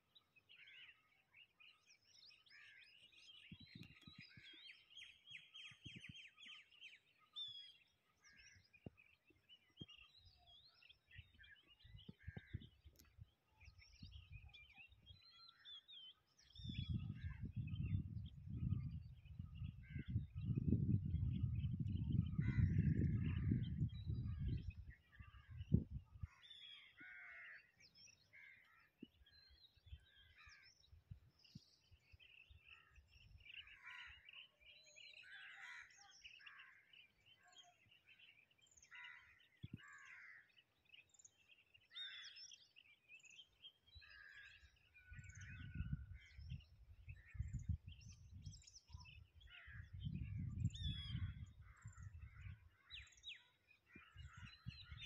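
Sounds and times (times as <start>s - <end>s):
birds chirping: 0.1s - 55.0s.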